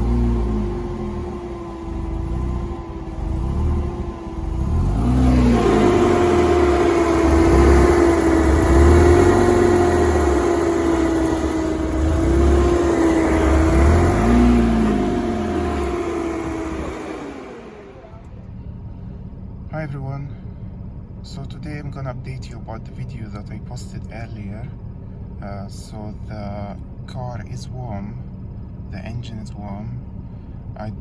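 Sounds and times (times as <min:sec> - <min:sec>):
car engine running with whine: 0:00.0 - 0:31.0.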